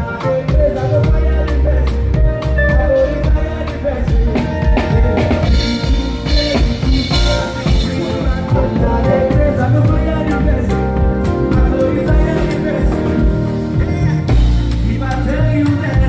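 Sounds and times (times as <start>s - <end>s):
live band playing: 0.0s - 16.0s.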